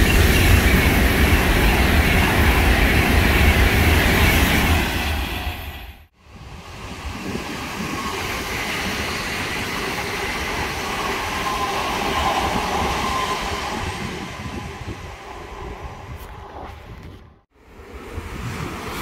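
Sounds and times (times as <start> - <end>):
train wheels rushing on rail: 0.0 - 16.6.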